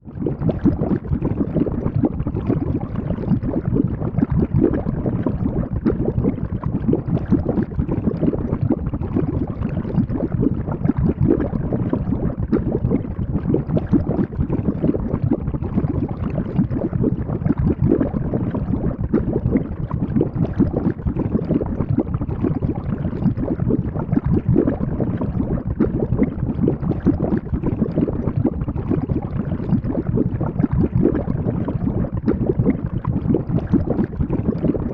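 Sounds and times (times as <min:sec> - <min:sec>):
cauldron bubbling and boiling: 0:00.0 - 0:34.9.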